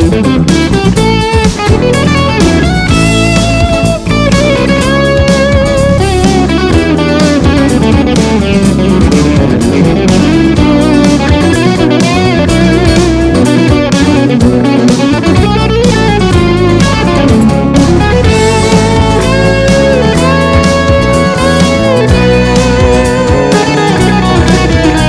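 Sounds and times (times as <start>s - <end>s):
funk music with electric guitar: 0.0s - 25.0s.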